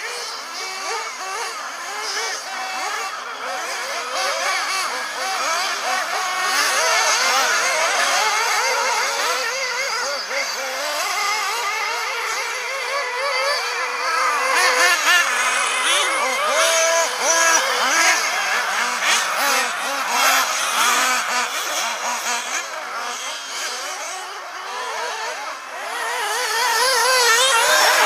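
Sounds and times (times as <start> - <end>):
rc car motors whining: 0.0 - 28.0.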